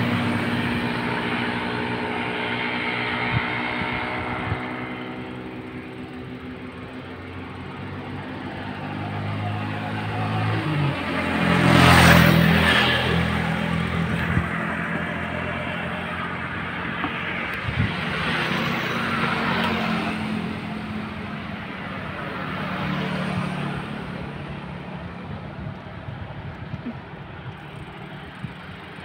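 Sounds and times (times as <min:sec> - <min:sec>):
scooter and car engines passing: 0:00.0 - 0:29.0
tyre and road noise: 0:00.0 - 0:29.0.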